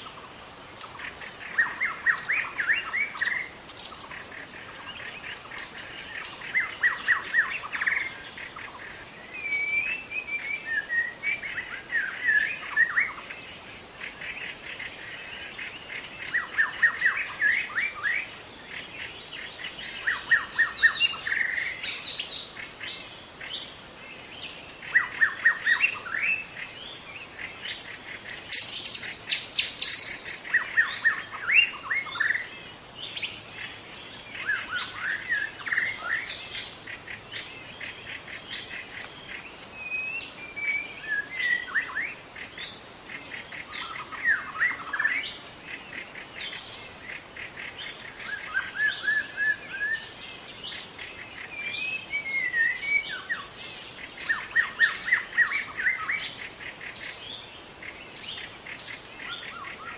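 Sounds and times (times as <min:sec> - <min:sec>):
bird singing rapid phrases: 0:00.0 - 0:59.9.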